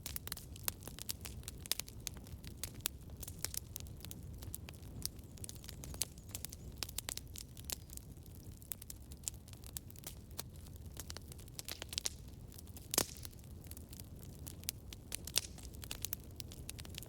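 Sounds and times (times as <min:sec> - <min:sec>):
campfire crackling and popping: 0:00.0 - 0:17.0
low rumble of flame: 0:00.0 - 0:17.0.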